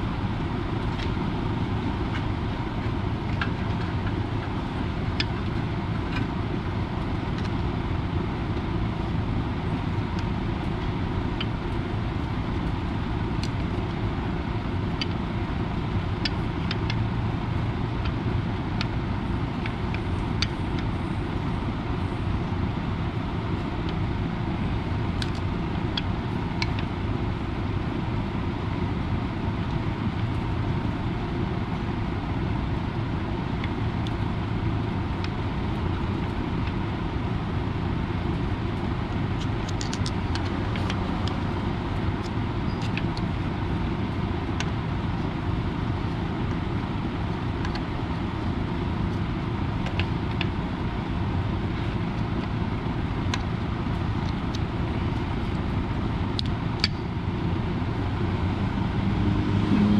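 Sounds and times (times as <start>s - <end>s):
steady hum and hiss: 0.0s - 59.9s.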